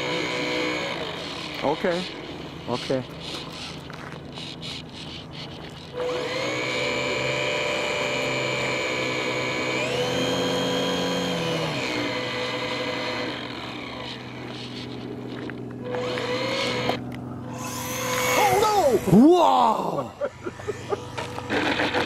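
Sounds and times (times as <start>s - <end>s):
model airplane motor whining: 0.0s - 22.0s.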